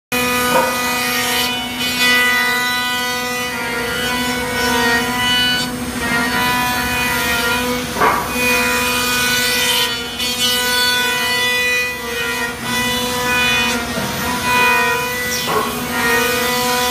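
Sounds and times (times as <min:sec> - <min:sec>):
cutter rasping in wood: 0:00.2 - 0:16.9
router spindle whine: 0:00.2 - 0:16.9.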